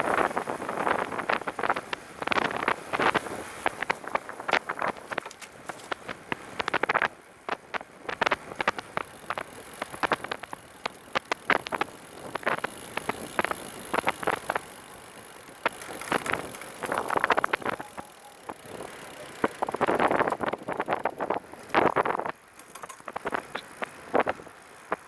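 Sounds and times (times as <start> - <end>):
trike clicks and rattles: 0.1 - 25.0.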